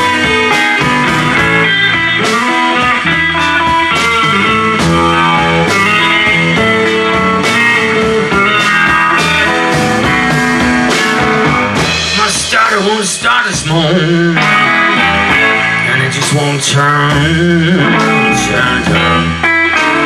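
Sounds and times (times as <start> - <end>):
blues band playing: 0.0 - 20.0
drum strokes: 0.0 - 20.0.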